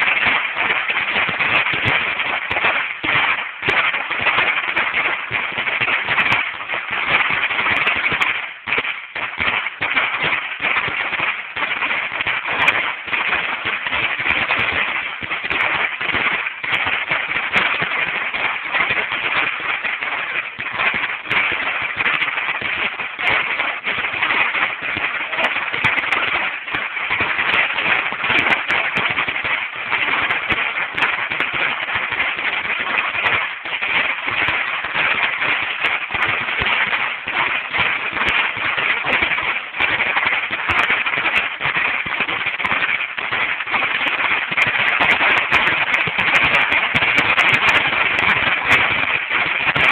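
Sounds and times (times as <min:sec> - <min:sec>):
firecracker strip popping: 0:00.0 - 0:49.9.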